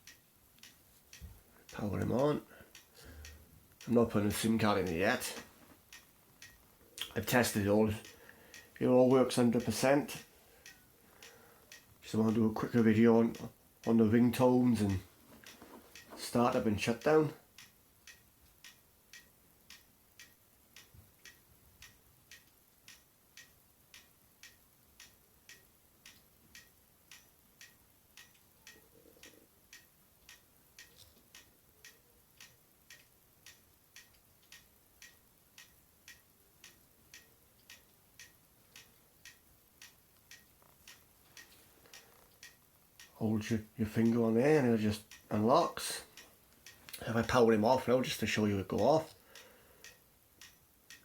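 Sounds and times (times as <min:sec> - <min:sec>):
clock ticking faintly: 0:00.0 - 0:51.0.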